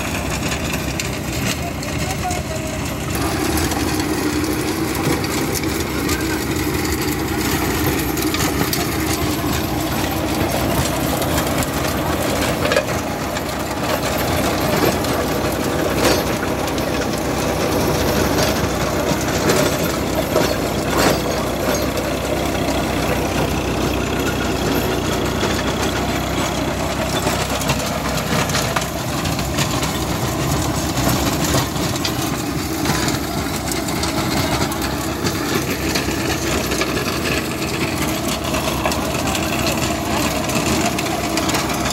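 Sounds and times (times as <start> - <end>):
rotavator blades churning soil: 0.0 - 41.9
tractor diesel engine running: 0.0 - 41.9.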